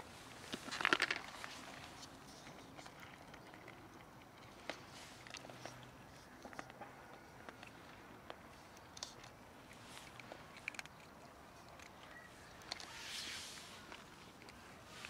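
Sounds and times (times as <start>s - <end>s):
cats crunching dry food: 0.0s - 15.0s.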